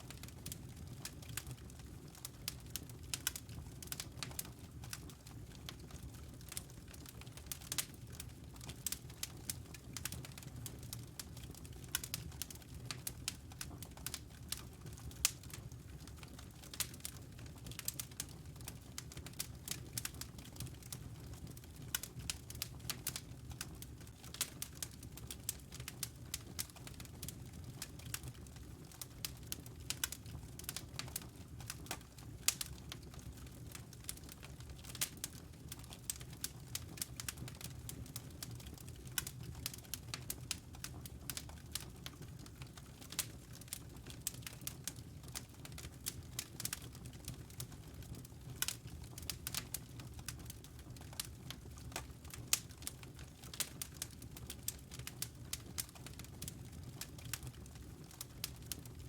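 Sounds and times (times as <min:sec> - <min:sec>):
fireplace fire crackling: 0:00.0 - 0:59.0.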